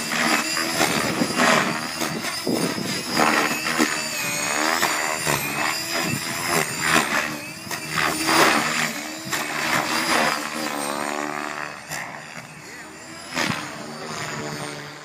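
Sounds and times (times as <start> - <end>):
rc helicopter rotor whine: 0.0 - 15.0.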